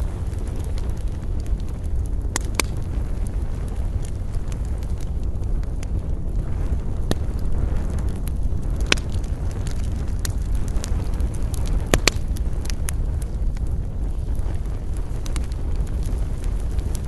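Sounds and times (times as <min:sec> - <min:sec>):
campfire crackling and popping: 0:00.0 - 0:17.0
low rumble of wind: 0:00.0 - 0:17.0.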